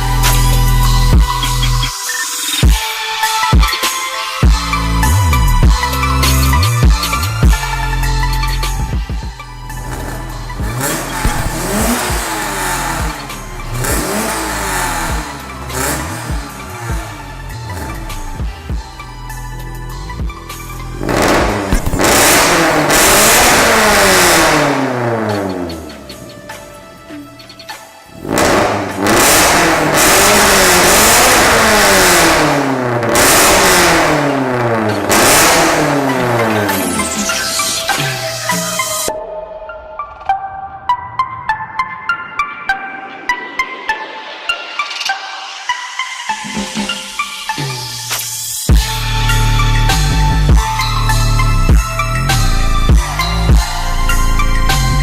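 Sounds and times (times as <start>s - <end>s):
car engine revving: 4.6s - 39.1s, 45.5s - 55.0s.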